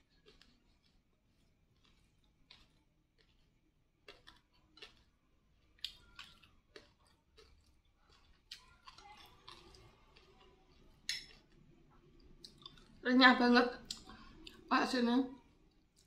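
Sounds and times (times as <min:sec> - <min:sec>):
faint chewing: 0:00.0 - 0:13.1, 0:13.7 - 0:14.7, 0:15.3 - 0:16.0.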